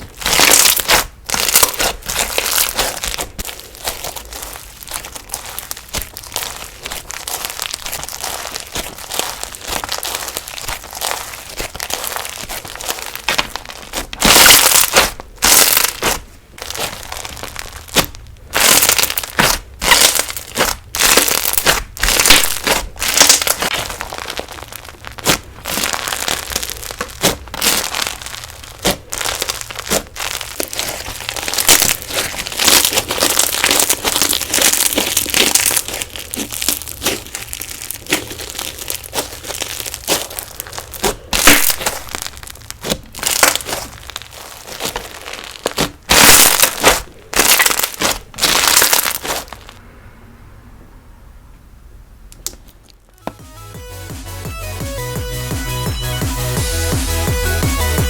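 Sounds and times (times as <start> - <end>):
crunchy slime crackling and popping: 0.0 - 49.8, 52.4 - 53.4.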